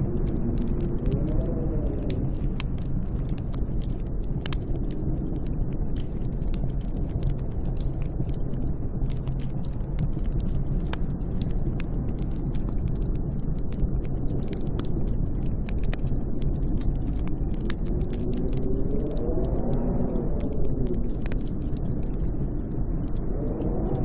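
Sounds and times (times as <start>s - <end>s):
sharp crackles: 0.0s - 24.0s
snowstorm wind rumbling: 0.0s - 24.0s.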